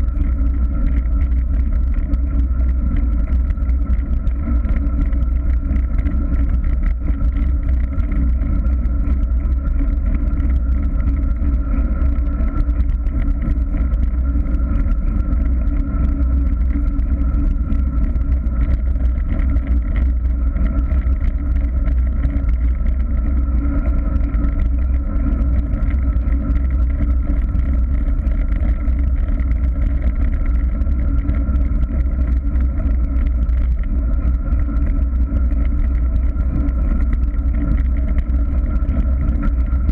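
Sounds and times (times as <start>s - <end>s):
wheels rolling on rough road: 0.0s - 39.9s.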